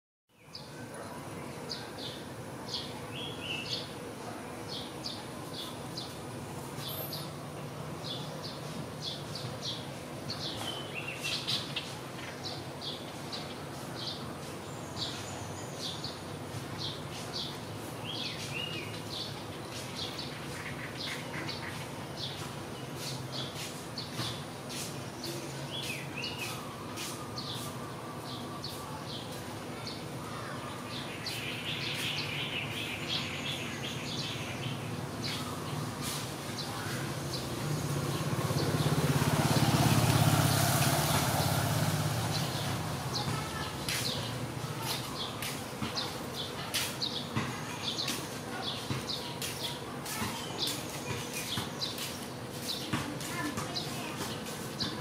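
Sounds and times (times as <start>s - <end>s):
small birds chirping: 0.3s - 55.0s.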